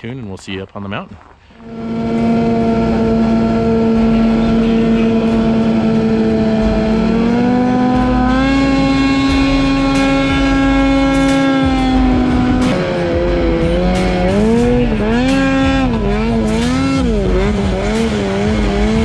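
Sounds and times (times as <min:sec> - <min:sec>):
snowmobile engine running: 0:01.5 - 0:19.0.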